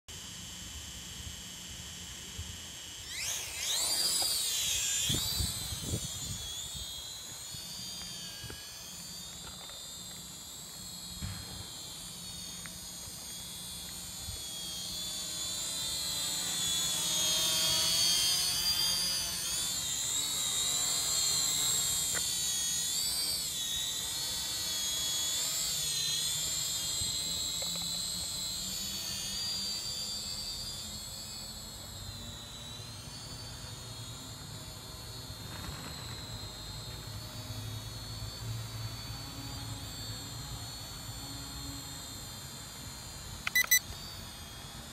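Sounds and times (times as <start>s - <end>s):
toy drone propellers whining: 0.1s - 44.9s.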